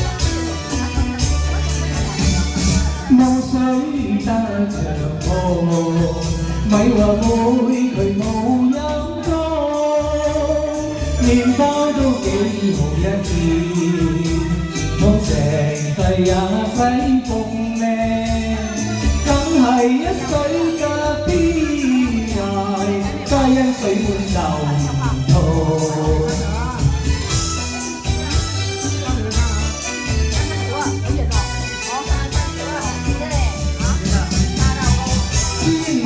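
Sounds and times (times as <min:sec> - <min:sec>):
backing track with beat: 0:00.0 - 0:36.0
man singing into microphone: 0:00.0 - 0:36.0.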